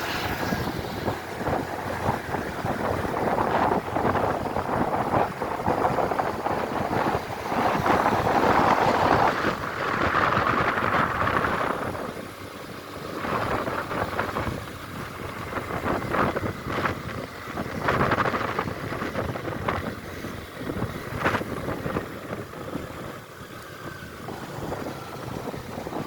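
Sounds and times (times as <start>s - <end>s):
traffic noise: 0.0s - 26.0s
wind buffeting microphone: 0.0s - 26.0s.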